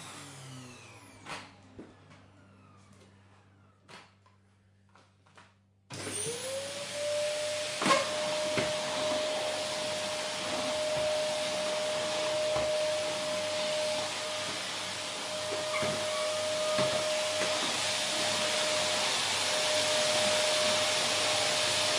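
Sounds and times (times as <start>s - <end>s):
vacuum cleaner motor whine: 0.0s - 4.1s, 5.9s - 21.9s.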